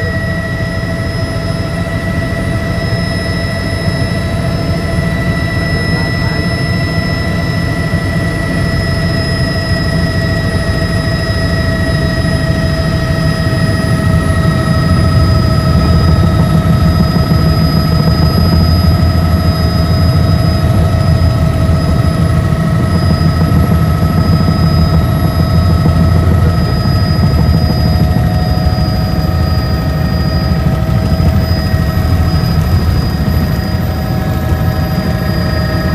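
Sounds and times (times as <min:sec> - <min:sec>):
helicopter rotor and engine rumble: 0:00.0 - 0:35.9
high whining tones: 0:00.0 - 0:35.9.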